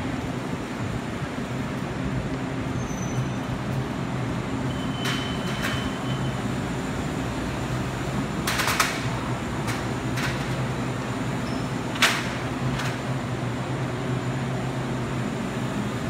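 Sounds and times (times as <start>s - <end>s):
train equipment humming: 0.0s - 16.0s.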